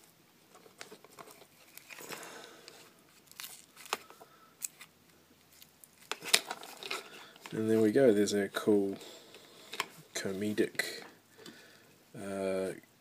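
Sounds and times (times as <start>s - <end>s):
light plastic rustling: 0.5s - 11.6s.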